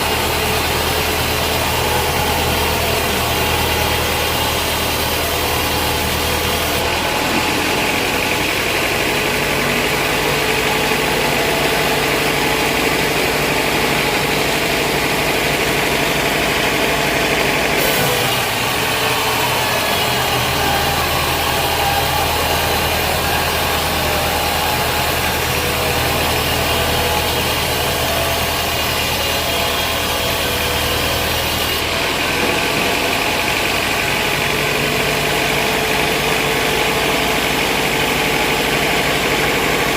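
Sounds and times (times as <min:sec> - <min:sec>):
band saw machine drone: 0:00.0 - 0:39.9.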